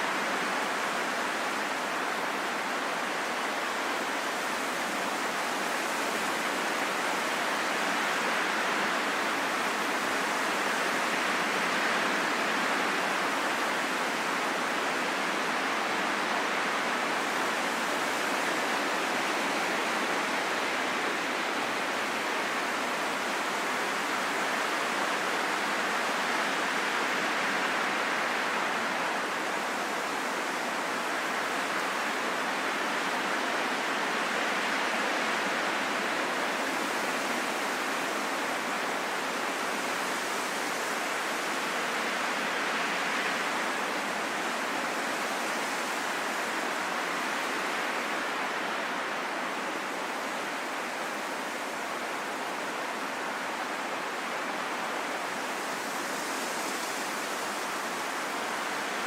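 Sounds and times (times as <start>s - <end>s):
steady rushing wind: 0.0s - 59.0s.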